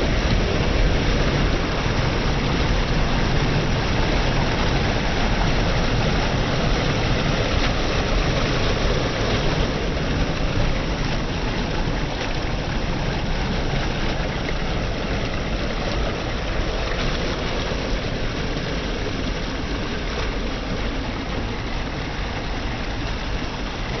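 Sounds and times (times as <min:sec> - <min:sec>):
fast-flowing river water: 0:00.0 - 0:24.0.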